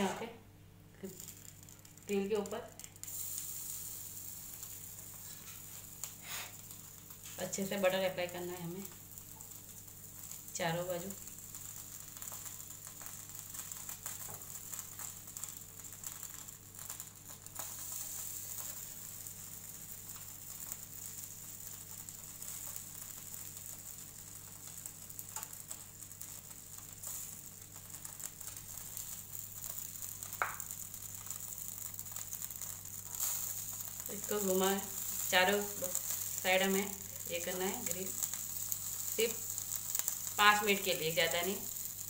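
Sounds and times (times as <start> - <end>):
steady low hum: 0.0 - 42.0
chicken skewers sizzling on a grill: 1.0 - 42.0.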